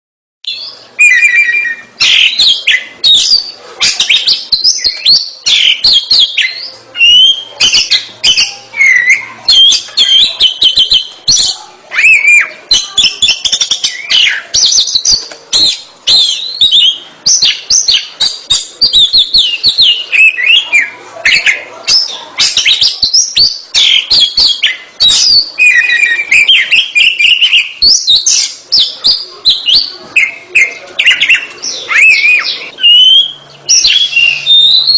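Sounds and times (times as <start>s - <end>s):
bird singing whistled notes: 0.5s - 34.9s.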